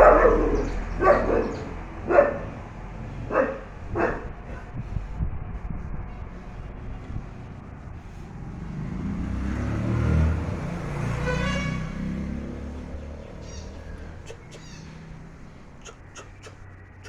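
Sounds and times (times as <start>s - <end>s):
truck engine passing by: 0.0s - 17.0s.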